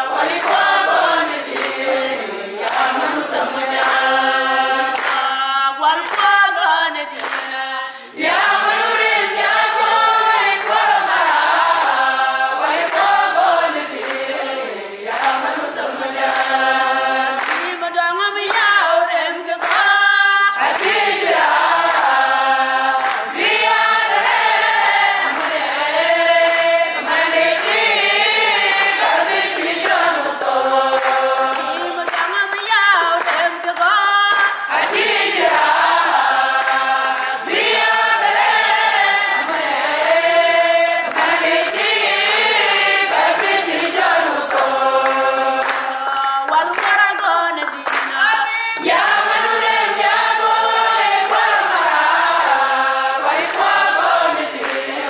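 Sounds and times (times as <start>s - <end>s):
women singing together: 0.0s - 55.0s.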